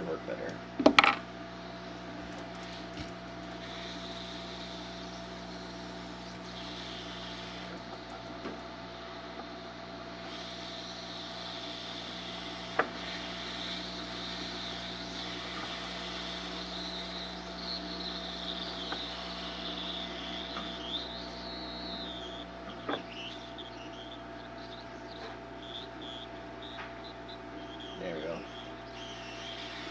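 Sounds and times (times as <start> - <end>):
blower humming: 0.0 - 29.9
wavering high whine: 0.0 - 29.9.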